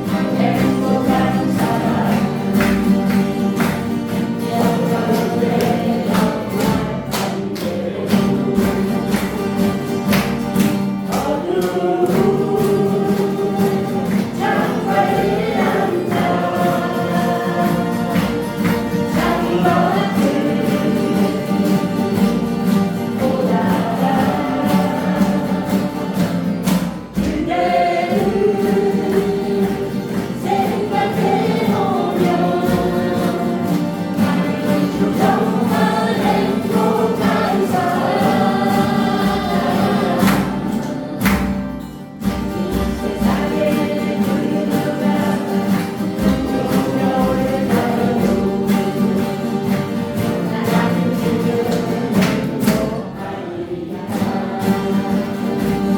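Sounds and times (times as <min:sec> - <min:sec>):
acoustic guitars: 0:00.0 - 0:55.9
group of voices singing: 0:00.0 - 0:55.9.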